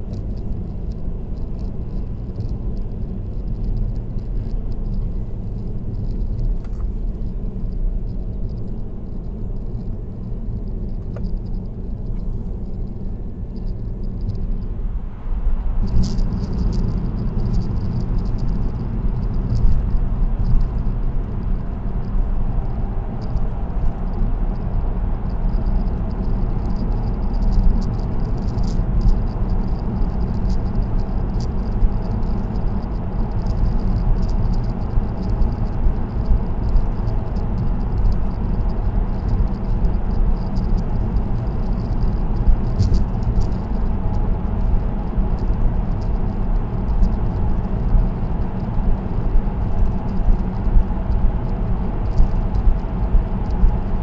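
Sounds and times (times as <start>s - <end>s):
light rattling ticks: 0.0s - 14.8s, 15.8s - 54.0s
tyre and road noise inside car: 0.0s - 54.0s.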